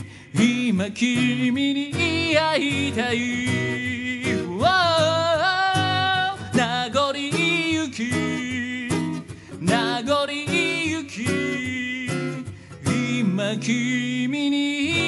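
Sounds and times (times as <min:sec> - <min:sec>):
acoustic guitar strumming: 0:00.0 - 0:15.0
man singing a slow ballad: 0:00.0 - 0:15.0.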